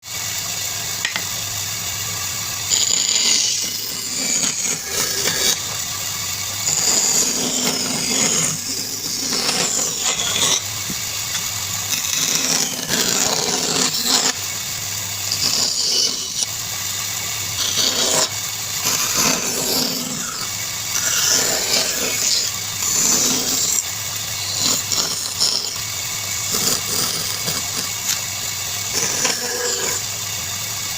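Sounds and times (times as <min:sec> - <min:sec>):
power tool cutting wood: 0:00.0 - 0:30.9.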